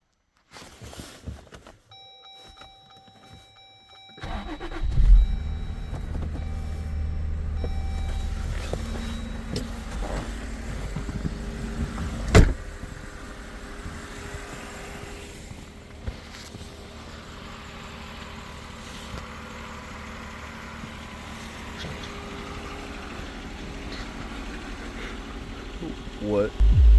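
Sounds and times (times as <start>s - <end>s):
car engine cranking and starting: 4.0s - 26.9s
car engine idling: 4.2s - 26.9s.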